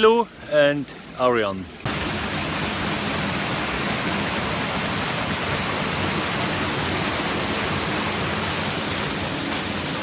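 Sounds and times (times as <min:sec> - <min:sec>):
rushing flowing water: 0:00.0 - 0:10.0.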